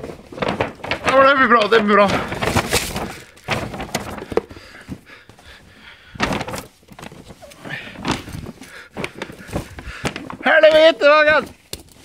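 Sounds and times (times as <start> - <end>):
handheld camera rustling and bumping: 0.0 - 5.4, 6.1 - 12.0.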